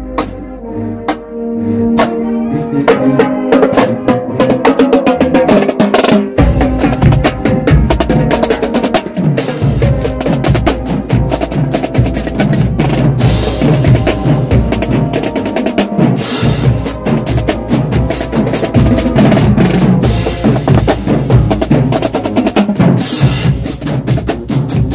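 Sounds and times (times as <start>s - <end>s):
held brass notes: 0.0s - 24.0s.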